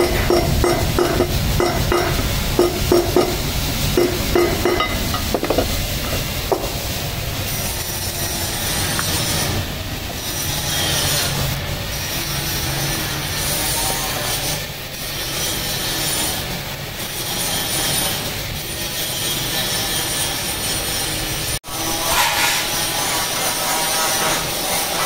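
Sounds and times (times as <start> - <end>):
buffing wheel on stainless steel: 0.0 - 25.0.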